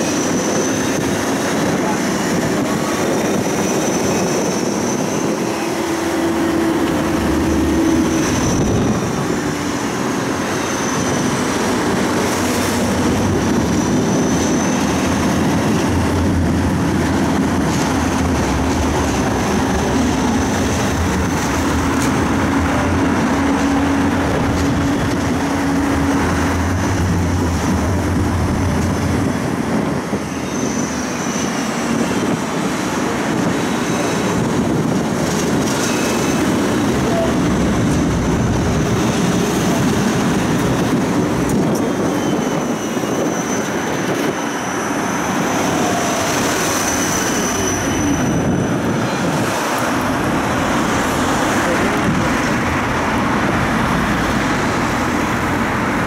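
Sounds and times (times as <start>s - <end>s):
tram wheels rumbling: 0.0s - 56.0s.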